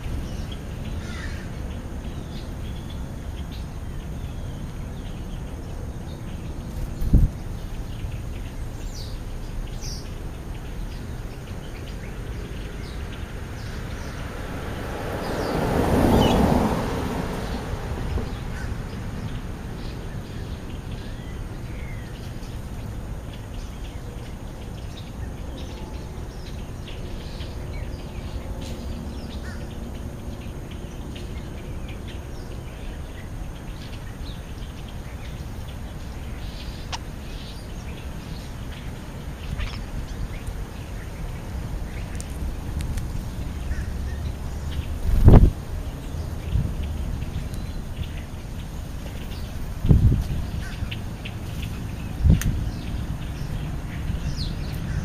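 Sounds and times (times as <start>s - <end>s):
small birds chirping: 0.0s - 55.0s
steady low rumble: 0.0s - 55.0s.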